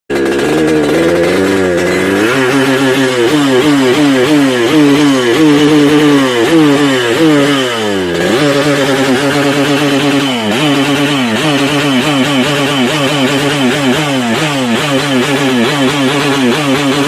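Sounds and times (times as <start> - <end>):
motorcycle engine revving: 0.1 - 17.0.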